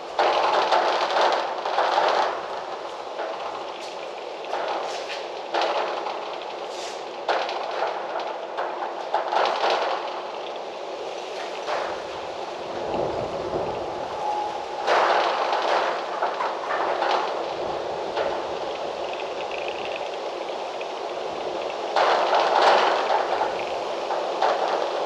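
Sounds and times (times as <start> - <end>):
leaves rustling: 0.0 - 25.0
wind gusting through trees: 0.0 - 25.0.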